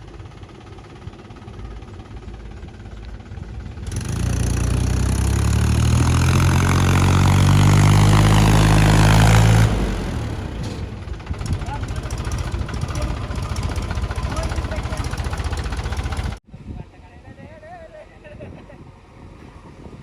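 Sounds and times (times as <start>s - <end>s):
heavy diesel engine running: 0.0s - 16.4s.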